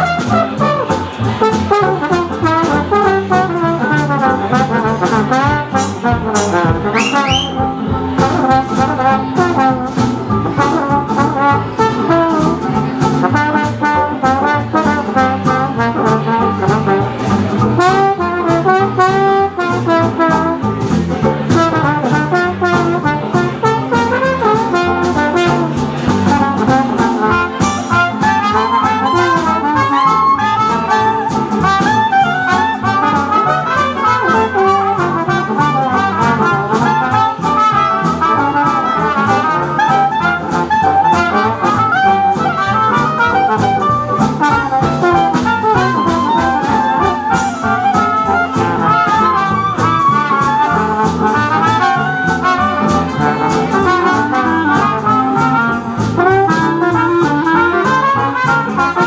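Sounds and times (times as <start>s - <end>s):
swing jazz band playing: 0.0s - 59.0s
trombone lead line: 0.0s - 59.0s.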